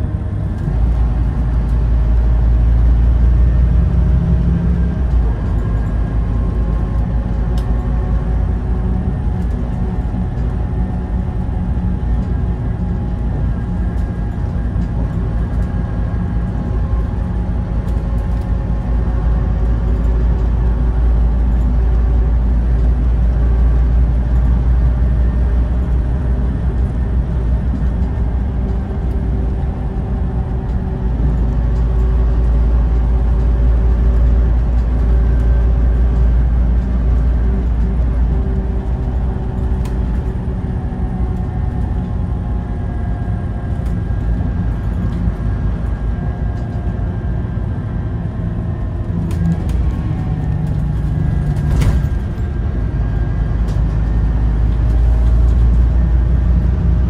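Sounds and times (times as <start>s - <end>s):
deep diesel engine rumble: 0.0s - 57.0s.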